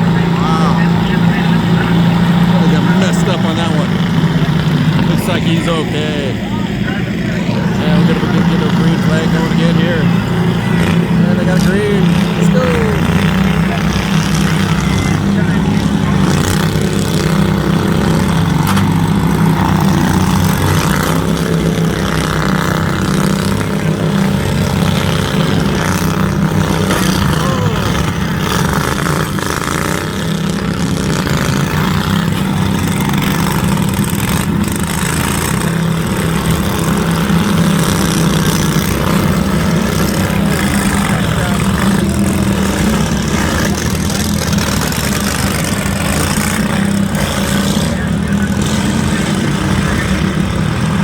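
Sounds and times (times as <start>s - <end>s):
lawnmower engines revving: 0.0s - 51.0s.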